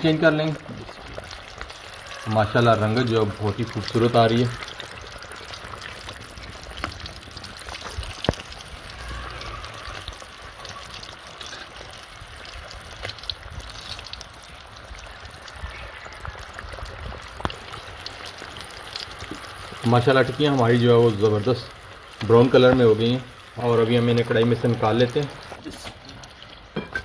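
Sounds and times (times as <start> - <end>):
oil popping and crackling: 0.0 - 27.0
patties sizzling in hot oil: 0.0 - 27.0.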